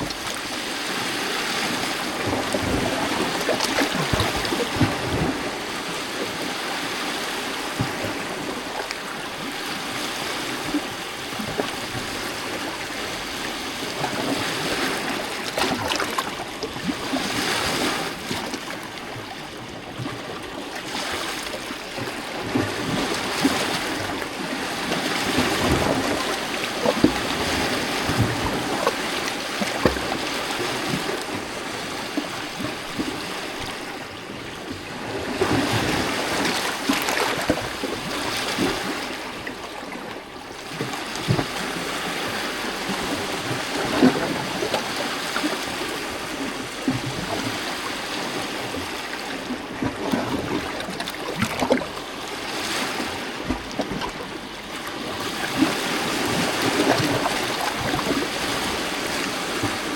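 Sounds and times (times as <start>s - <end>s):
waves lapping against rocks: 0.0s - 59.9s.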